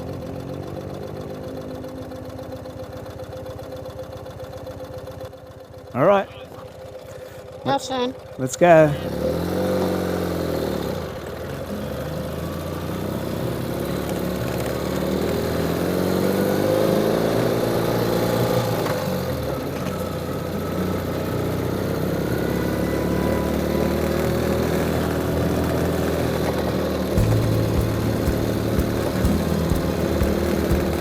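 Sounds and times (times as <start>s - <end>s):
motorcycle engine running uphill: 0.0s - 31.0s.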